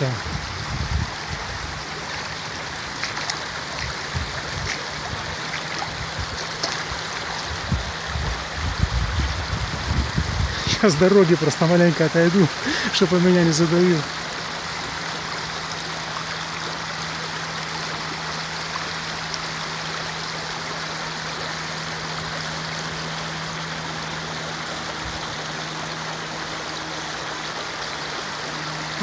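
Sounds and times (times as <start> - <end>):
river rushing over stones: 0.0 - 29.0.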